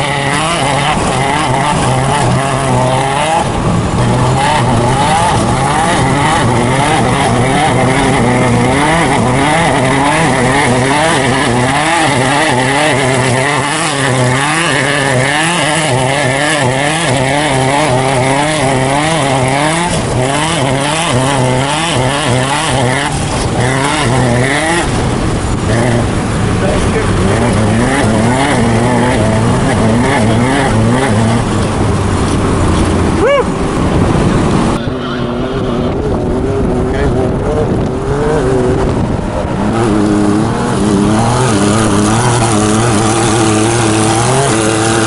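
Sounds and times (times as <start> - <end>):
truck engine revving hard: 0.0 - 45.0.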